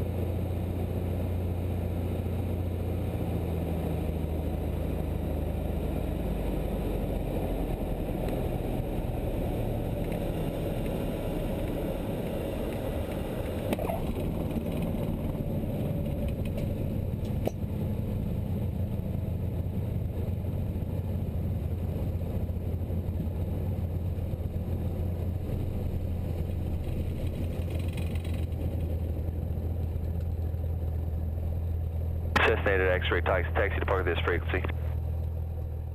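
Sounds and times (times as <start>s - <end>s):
propeller plane engine: 0.0s - 35.9s.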